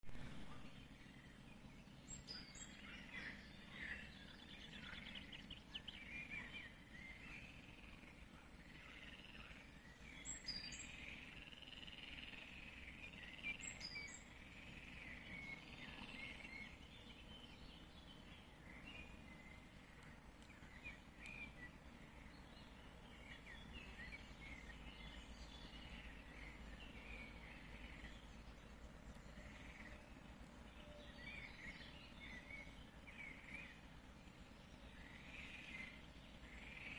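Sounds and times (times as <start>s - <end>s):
birds singing and chirping: 0.1s - 36.9s
low steady background rumble: 0.1s - 36.9s.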